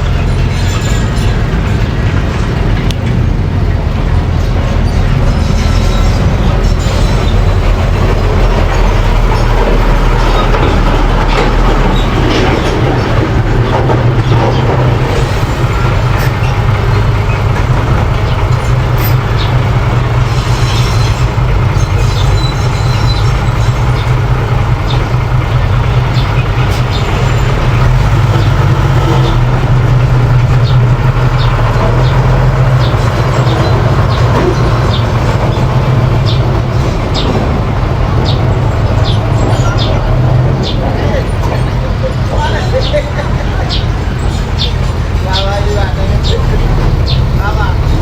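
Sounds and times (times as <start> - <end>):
bulldozer engine running: 0.0 - 48.0.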